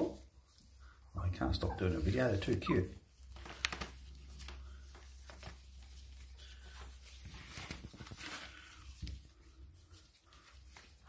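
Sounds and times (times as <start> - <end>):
newspaper rustling: 1.8 - 11.0.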